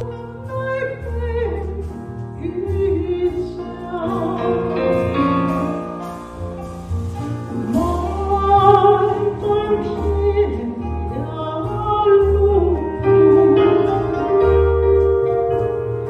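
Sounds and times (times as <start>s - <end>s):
walking bass line: 0.0s - 16.0s.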